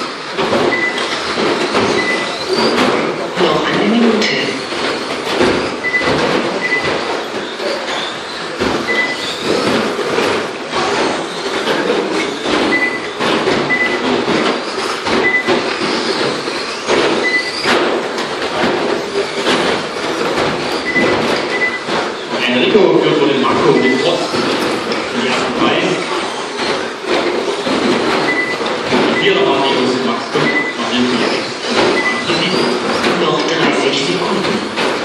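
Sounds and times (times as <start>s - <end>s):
cars knocking on track: 0.0s - 35.0s.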